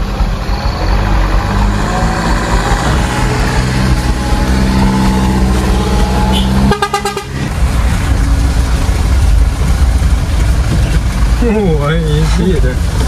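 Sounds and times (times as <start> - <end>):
road noise inside cab: 0.0 - 13.0
truck engine droning: 0.0 - 13.0.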